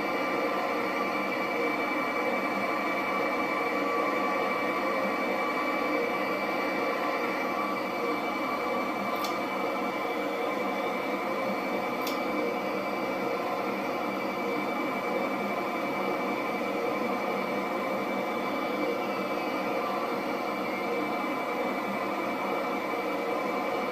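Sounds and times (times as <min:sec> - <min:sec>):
jet engine whine and rush: 0:00.0 - 0:23.9.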